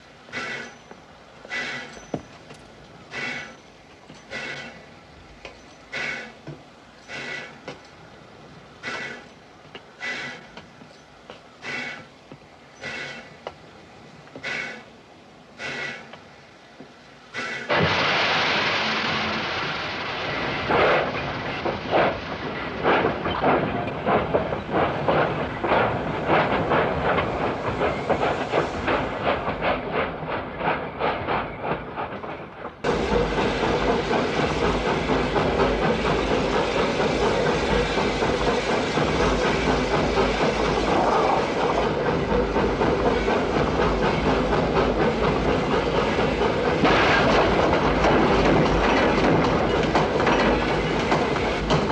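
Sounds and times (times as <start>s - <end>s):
train cars rumbling and rattling: 0.0s - 51.9s.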